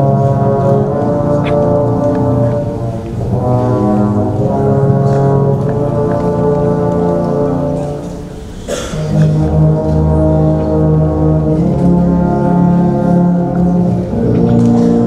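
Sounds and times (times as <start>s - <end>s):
brass band holding chords: 0.0s - 15.0s.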